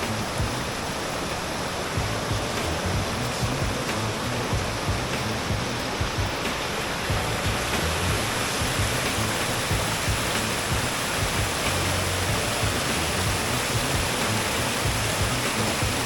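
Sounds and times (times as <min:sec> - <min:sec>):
waterfall rushing and splashing: 0:00.0 - 0:16.0.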